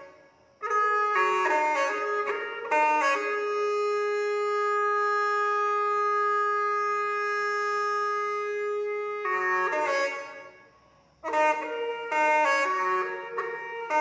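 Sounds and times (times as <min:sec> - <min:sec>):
solo wind instrument melody: 0:00.0 - 0:14.0.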